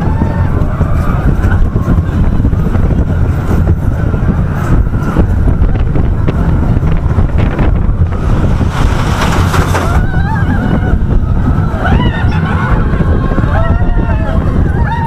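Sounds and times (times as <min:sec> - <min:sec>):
roller coaster wheels rumbling: 0:00.0 - 0:15.0
wind buffeting microphone: 0:00.0 - 0:15.0.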